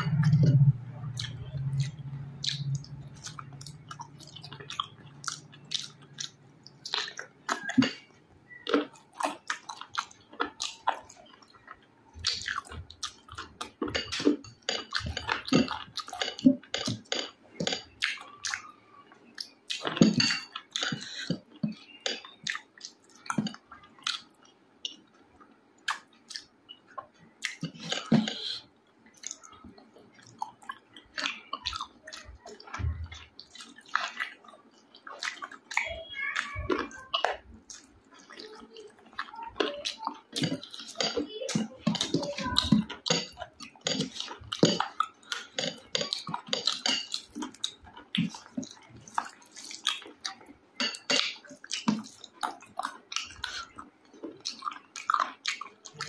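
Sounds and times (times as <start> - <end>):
clicks and squelches of eating: 0.0 - 56.0
wet chewing and lip-smacking: 0.0 - 56.0.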